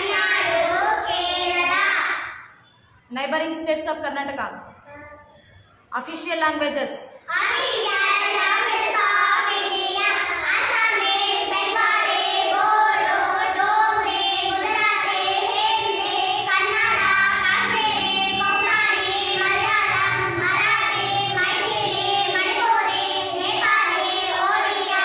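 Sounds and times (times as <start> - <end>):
girls singing in unison: 0.0 - 2.4, 7.3 - 25.0.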